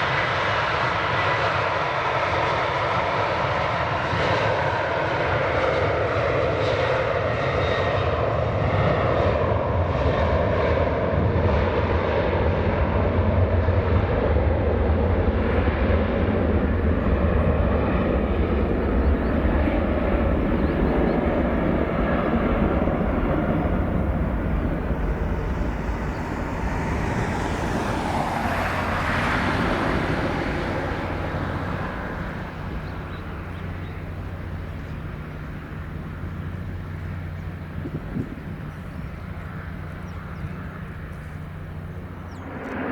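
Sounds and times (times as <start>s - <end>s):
jet engines passing: 0.0s - 42.9s.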